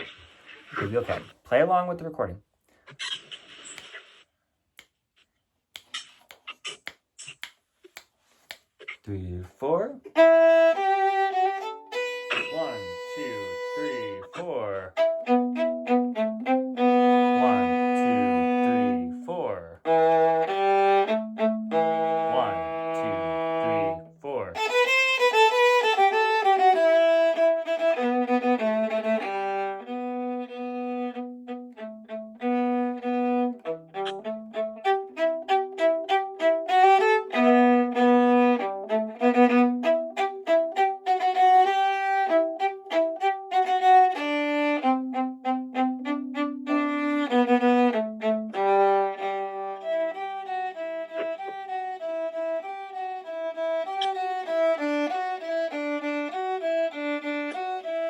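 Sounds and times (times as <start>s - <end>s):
violin playing lively fiddle tune: 9.6s - 58.0s.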